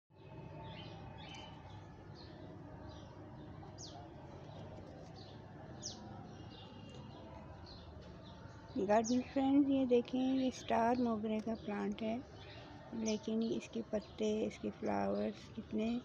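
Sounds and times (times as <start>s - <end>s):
birds chirping faintly: 0.1s - 16.0s.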